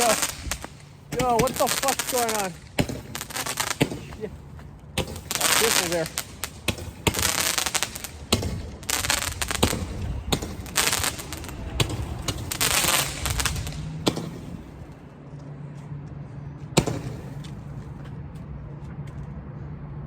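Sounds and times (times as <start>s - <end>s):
fireworks bangs and crackling: 0.0s - 15.0s, 16.8s - 18.0s.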